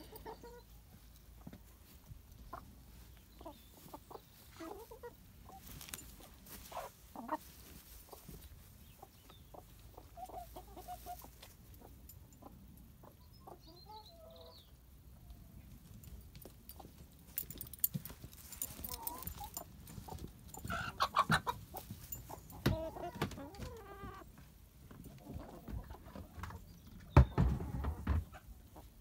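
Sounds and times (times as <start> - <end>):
hens clucking: 0.0 - 1.7, 2.3 - 14.7, 18.7 - 29.0.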